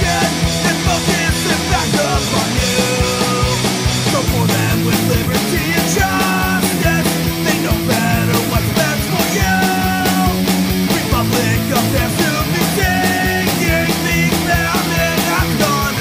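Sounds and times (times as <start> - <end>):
punk rock band playing: 0.0 - 16.0
steady drum beat: 0.0 - 16.0.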